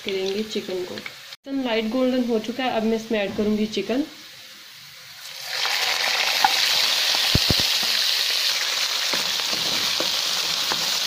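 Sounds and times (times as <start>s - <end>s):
chicken sizzling in hot oil: 0.0s - 2.4s, 4.2s - 11.0s.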